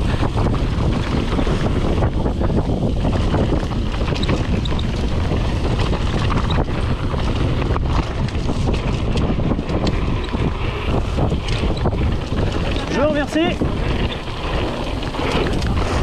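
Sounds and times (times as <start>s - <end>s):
bike rattling over bumps: 0.0s - 16.0s
tyres rolling over dirt: 0.0s - 16.0s
wind rushing over microphone: 0.0s - 16.0s.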